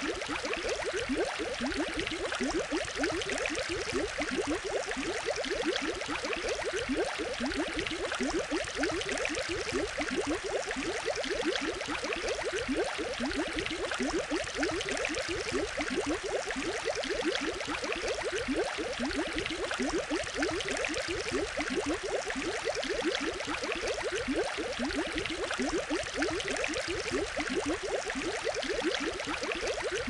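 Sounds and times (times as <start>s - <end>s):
water bubbling and gurgling: 0.0s - 30.0s.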